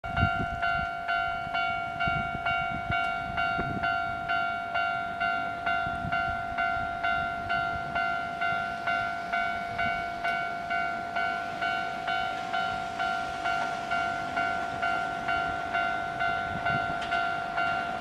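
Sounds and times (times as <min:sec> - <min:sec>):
level crossing warning bell: 0:00.0 - 0:18.0.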